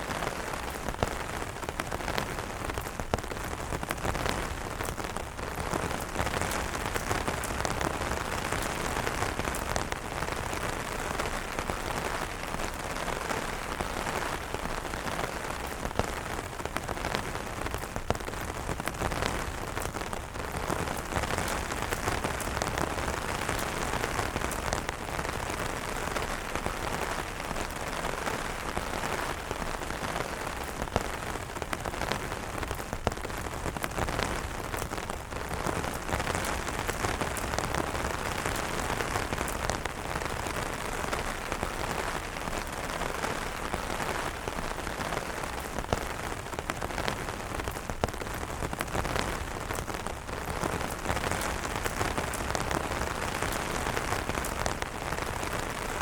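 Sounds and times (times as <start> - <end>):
rain on umbrellas: 0.0 - 56.0.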